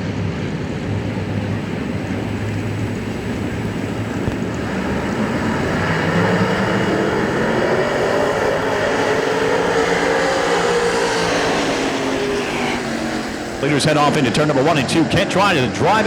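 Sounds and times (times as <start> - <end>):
race car engines running hard: 0.0 - 16.0.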